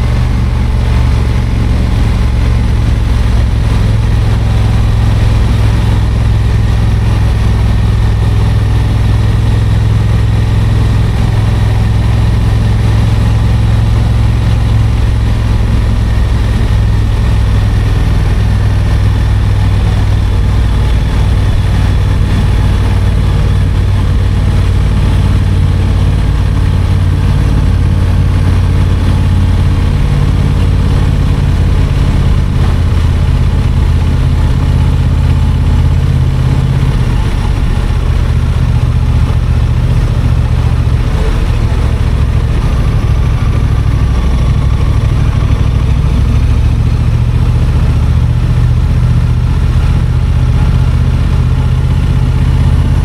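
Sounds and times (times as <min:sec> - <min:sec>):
motorcycle engine running at low revs: 0:00.0 - 0:53.0.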